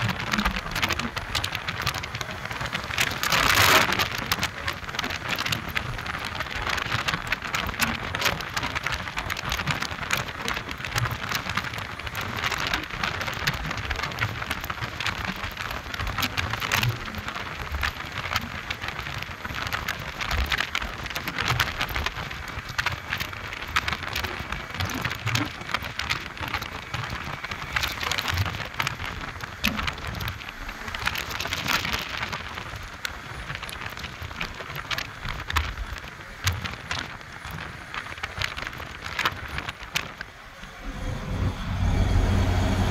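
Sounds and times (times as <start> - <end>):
rushing wind: 0.0 - 42.9
vehicle road noise: 0.0 - 42.9
wind buffeting microphone: 0.0 - 42.9.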